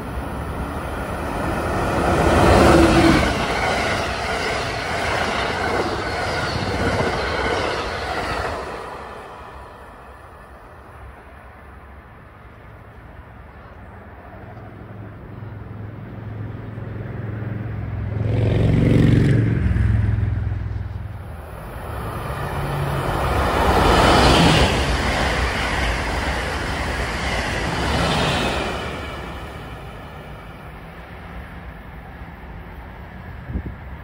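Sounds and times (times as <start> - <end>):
high-speed train passing: 0.0 - 34.0.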